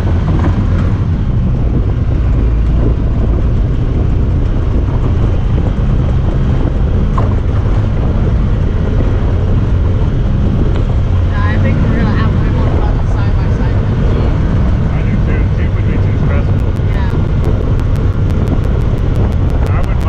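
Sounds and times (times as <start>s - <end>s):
engine droning: 0.0s - 20.0s
road and drivetrain noise: 0.0s - 20.0s.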